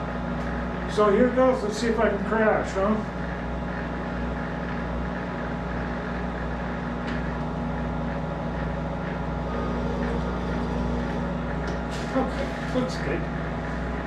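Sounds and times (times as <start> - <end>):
lathe machine hum: 0.0 - 14.0.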